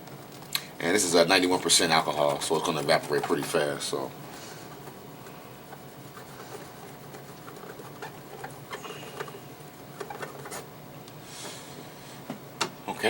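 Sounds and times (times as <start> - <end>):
small clicks and light scratching: 0.0 - 11.2.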